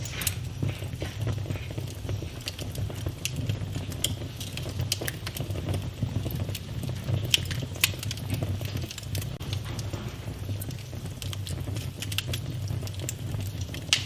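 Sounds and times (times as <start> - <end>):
fire flames rumbling: 0.0 - 14.0
logs popping and crackling: 0.0 - 14.0.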